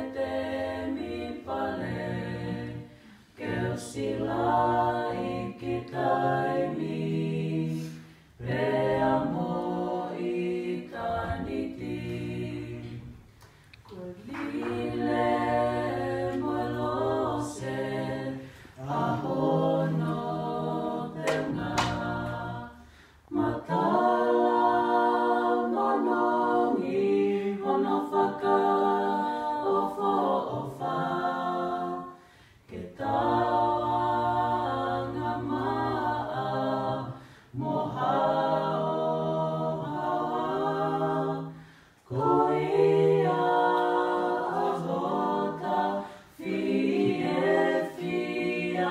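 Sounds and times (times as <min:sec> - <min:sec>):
group singing a cappella: 0:00.0 - 0:48.9.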